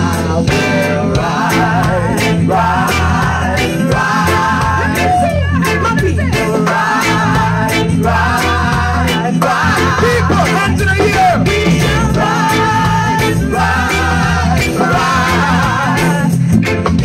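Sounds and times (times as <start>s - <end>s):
reggae band playing: 0.0s - 17.0s
vocal group singing in harmony: 0.0s - 17.0s.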